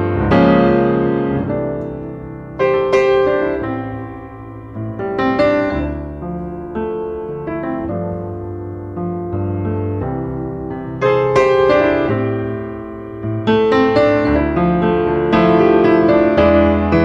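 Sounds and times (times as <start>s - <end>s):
gentle solo piano music: 0.0s - 17.0s.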